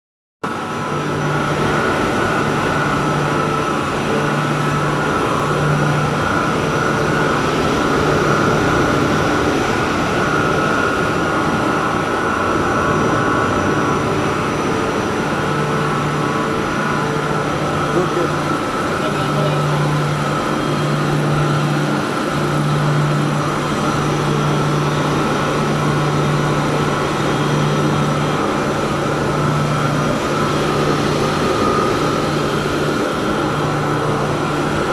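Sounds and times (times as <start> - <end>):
high-pitched whine: 0.4 - 34.9
pump machinery humming: 0.4 - 34.9.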